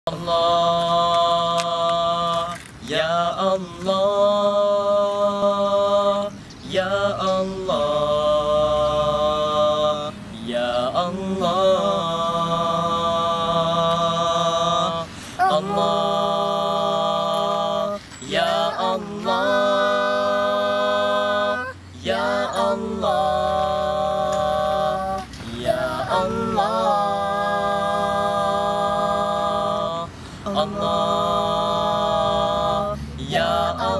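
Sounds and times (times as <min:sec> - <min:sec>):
boys singing a cappella: 0:00.1 - 0:33.9.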